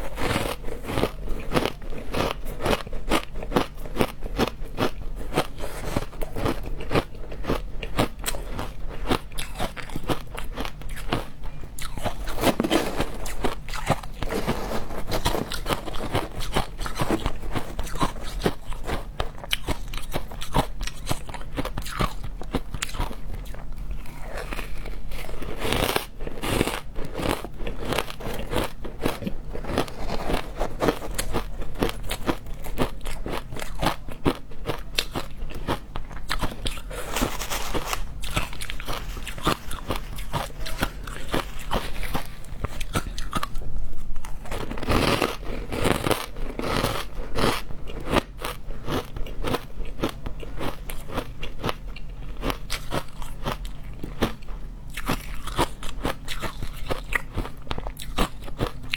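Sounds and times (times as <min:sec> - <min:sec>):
ice being chewed and crunched: 0:00.0 - 0:58.9.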